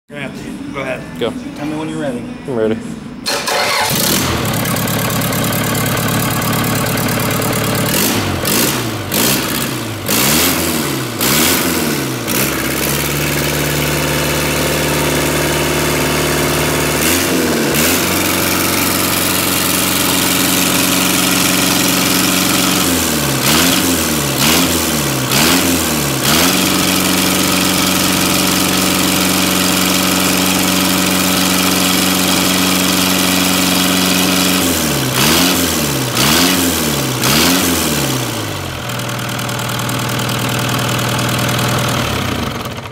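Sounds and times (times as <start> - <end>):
diesel engine revving: 3.3 - 42.9.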